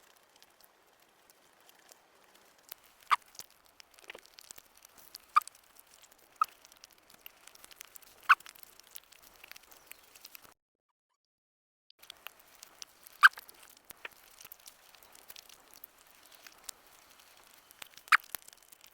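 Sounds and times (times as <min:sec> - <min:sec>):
soft chewing: 0:00.0 - 0:10.6, 0:12.0 - 0:18.9.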